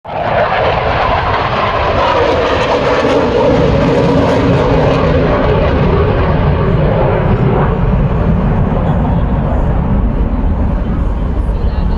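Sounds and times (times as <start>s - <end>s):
jet roar flying over: 0.0s - 11.9s.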